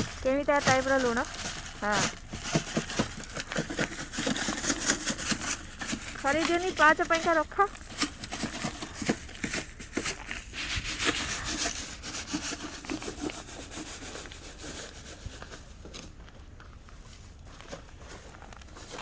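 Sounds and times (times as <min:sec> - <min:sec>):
gritty crunching of salt grains: 0:00.0 - 0:19.0.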